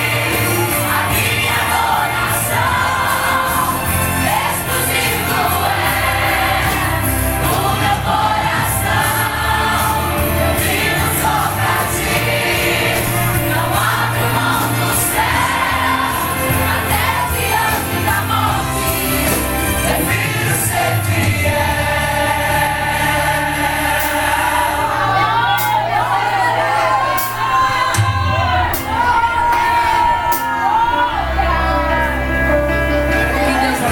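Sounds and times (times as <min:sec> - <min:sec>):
choir singing gospel song: 0:00.0 - 0:33.9
instrumental backing: 0:00.0 - 0:33.9.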